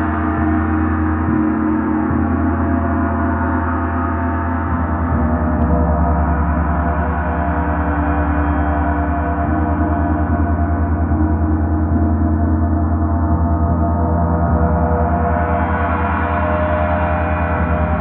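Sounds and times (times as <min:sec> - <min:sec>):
gong sustained ringing: 0:00.0 - 0:18.0.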